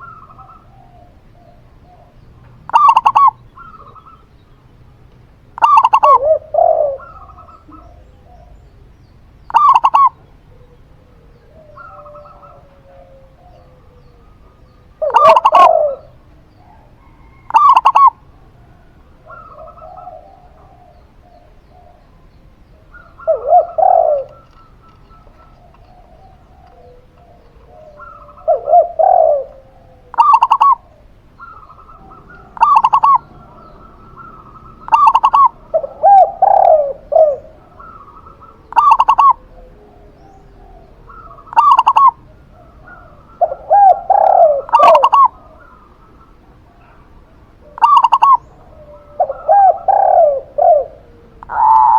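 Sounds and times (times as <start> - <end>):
doves cooing: 0.0 - 51.9.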